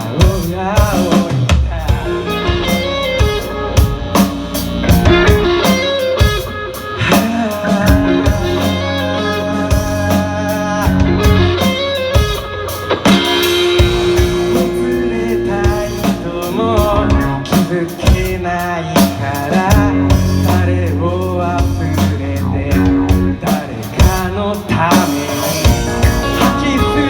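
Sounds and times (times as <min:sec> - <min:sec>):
drum kit: 0:00.0 - 0:27.0
electric guitars playing: 0:00.0 - 0:27.0.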